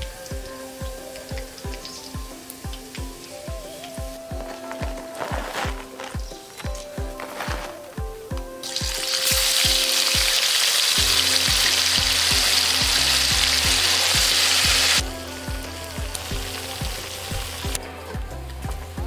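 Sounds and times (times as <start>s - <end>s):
hot oil sizzling in a wok: 0.0s - 5.5s, 8.6s - 19.0s
background music with a beat: 0.0s - 19.0s.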